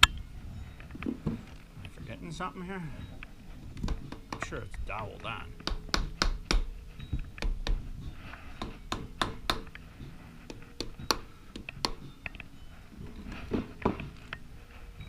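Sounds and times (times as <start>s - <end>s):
hand tool tapping on metal: 0.8s - 14.4s.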